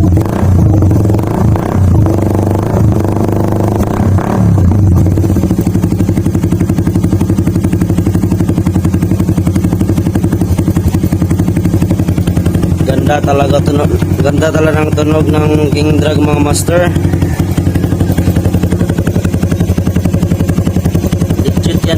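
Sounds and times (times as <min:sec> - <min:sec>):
motorcycle engine blipping and idling: 0:00.0 - 0:21.9.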